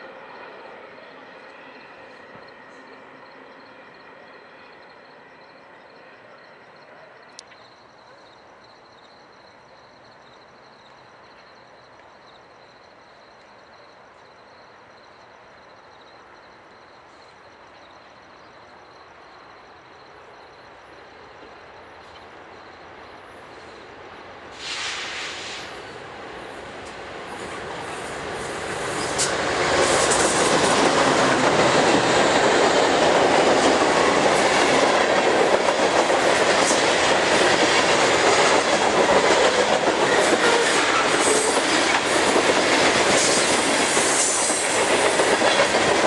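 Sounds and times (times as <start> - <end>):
approaching train rushing: 0.0 - 46.0.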